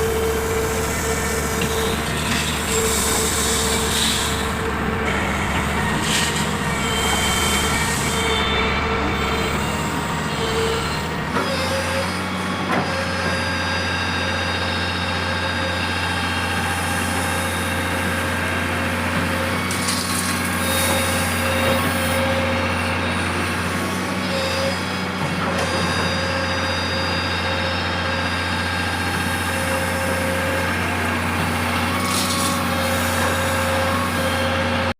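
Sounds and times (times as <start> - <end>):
heavy diesel engines humming: 0.0 - 34.9.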